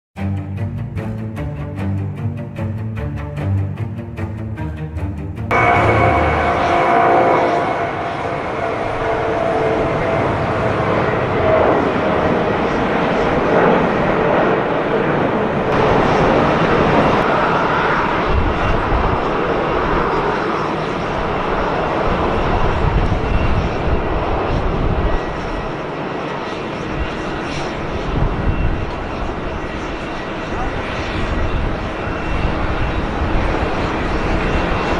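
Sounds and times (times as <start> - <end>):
jet engines running: 5.4 - 34.9.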